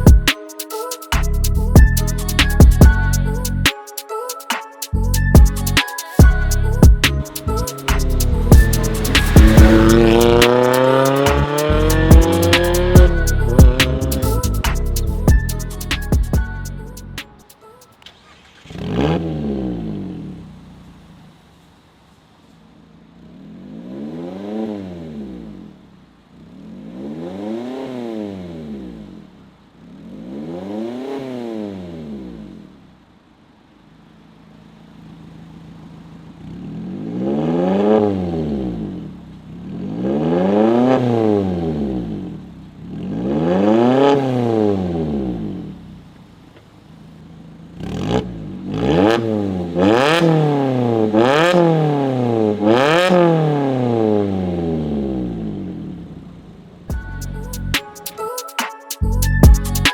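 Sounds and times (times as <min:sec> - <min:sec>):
car engine revving: 0:05.6 - 0:16.4, 0:18.0 - 0:57.8.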